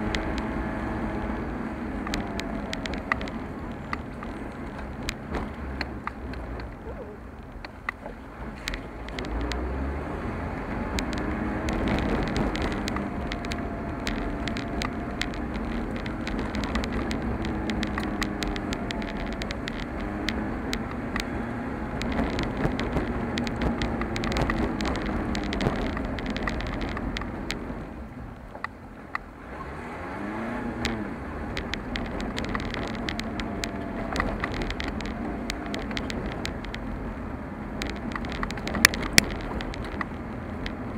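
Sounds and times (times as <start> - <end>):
sharp ticks and rattles: 0.0 - 9.8, 10.4 - 29.3, 30.6 - 40.9
car engine and tyre noise: 0.0 - 40.9.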